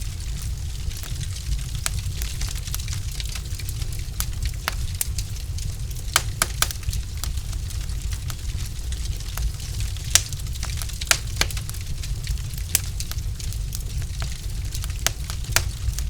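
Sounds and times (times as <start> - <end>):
log fire crackling: 0.0 - 16.0
loud fire pops: 0.0 - 16.0.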